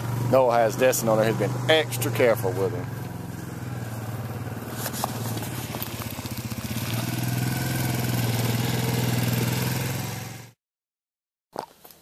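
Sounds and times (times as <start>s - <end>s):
quad bike engine running: 0.0s - 10.6s.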